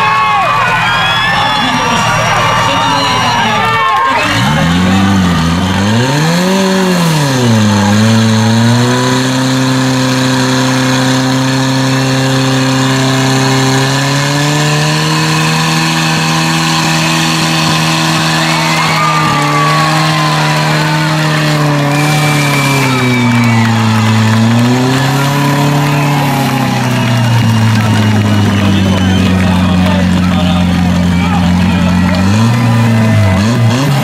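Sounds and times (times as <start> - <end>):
fire pump engine revving: 0.0 - 34.0.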